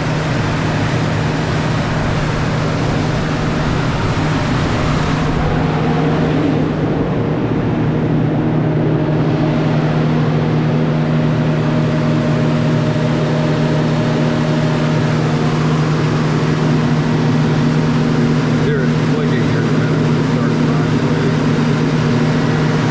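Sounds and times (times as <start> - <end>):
air compressor droning: 0.0 - 22.9.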